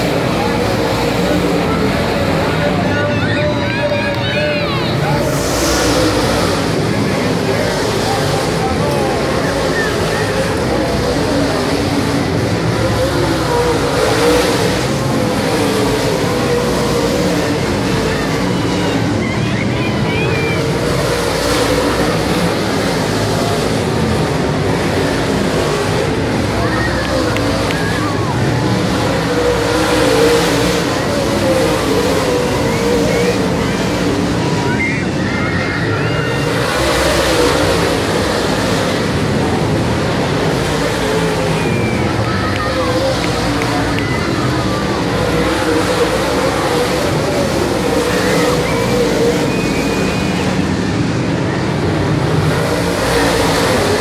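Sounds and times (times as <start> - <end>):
race car engines roaring: 0.0 - 54.0
race car passing close: 0.0 - 54.0.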